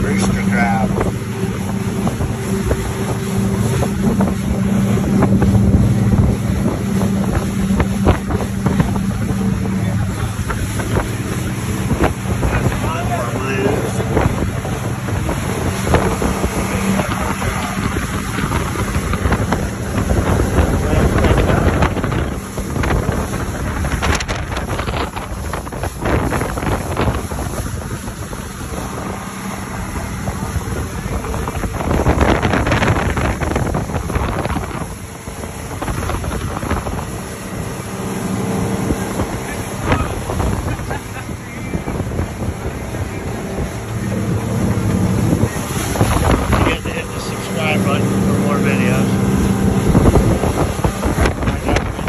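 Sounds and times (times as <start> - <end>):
boat engine running: 0.0 - 52.0
water rushing past: 0.0 - 52.0
wind buffeting microphone: 0.0 - 52.0.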